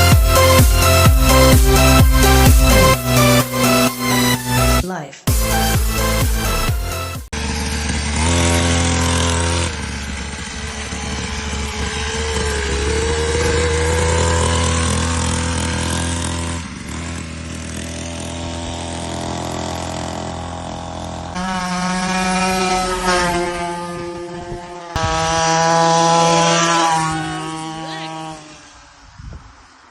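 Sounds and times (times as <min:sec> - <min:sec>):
dirt bike engine revving: 0:00.0 - 0:28.8.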